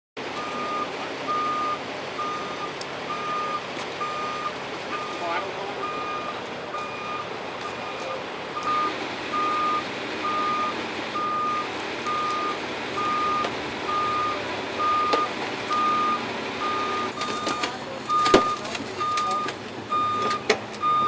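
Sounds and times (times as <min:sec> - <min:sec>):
vehicle noise: 0:00.2 - 0:21.0
backup alarm beeping: 0:00.4 - 0:21.0.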